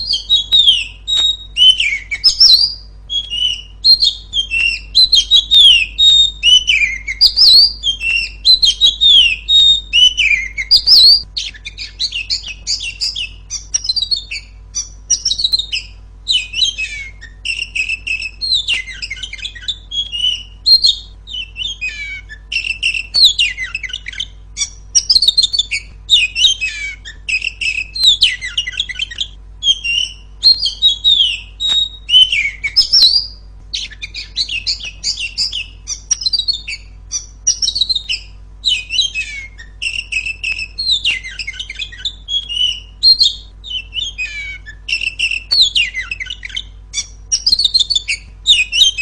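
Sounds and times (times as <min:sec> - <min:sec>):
magpie-robin singing: 0:00.0 - 0:49.0.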